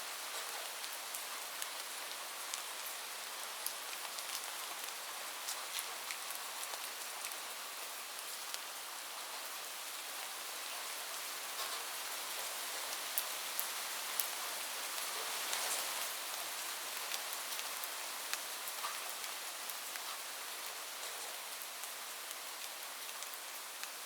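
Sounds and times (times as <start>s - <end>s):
rain falling on a roof: 0.0s - 24.0s.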